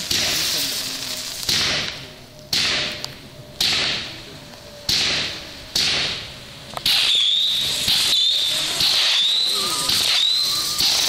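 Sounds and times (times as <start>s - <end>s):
fireworks cracking: 0.0s - 11.0s
fireworks hissing: 0.0s - 11.0s.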